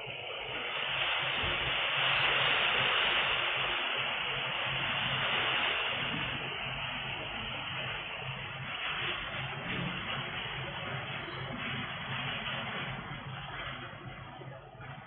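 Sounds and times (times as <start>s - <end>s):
strong wind: 0.0s - 14.6s
heavy rain: 0.0s - 15.0s.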